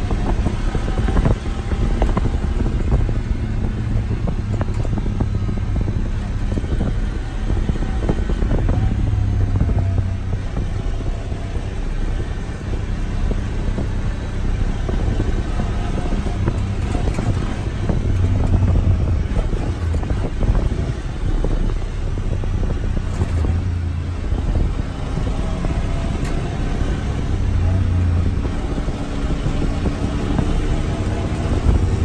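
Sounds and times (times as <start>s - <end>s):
vehicle engine cruising: 0.0s - 32.0s.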